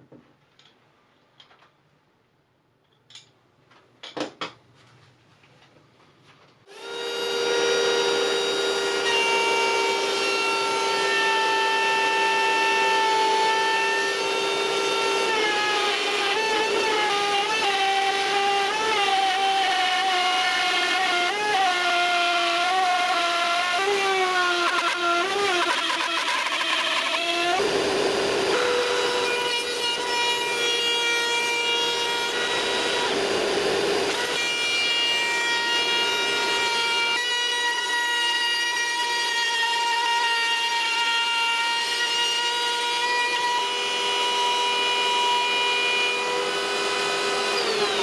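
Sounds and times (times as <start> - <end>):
circular saw cutting wood: 6.7 - 48.0.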